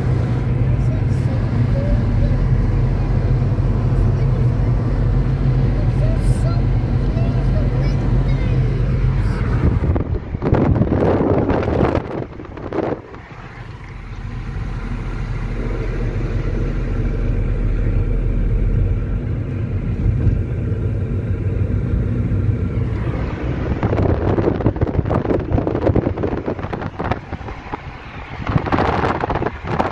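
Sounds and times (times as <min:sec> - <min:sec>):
wind on microphone: 0:00.0 - 0:17.4, 0:22.6 - 0:29.9
engine running with low hum: 0:00.0 - 0:29.9.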